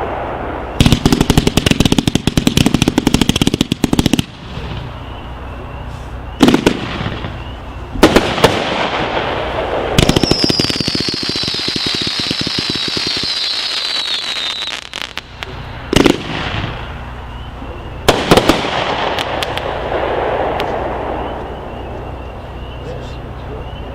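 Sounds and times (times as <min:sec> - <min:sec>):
firework bangs: 0:00.0 - 0:21.9
firework crackling: 0:00.0 - 0:21.9
descending firework whistle: 0:00.0 - 0:23.9.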